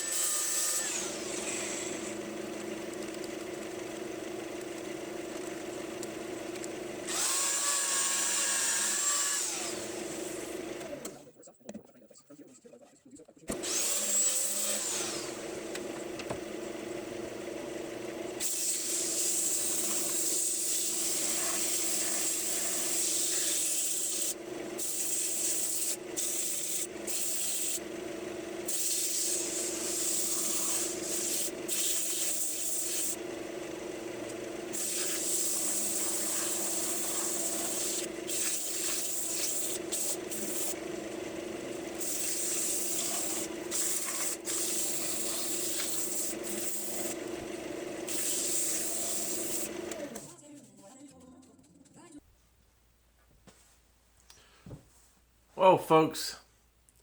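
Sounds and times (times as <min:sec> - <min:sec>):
wood lathe motor hum: 0:00.0 - 0:11.2, 0:13.5 - 0:50.3.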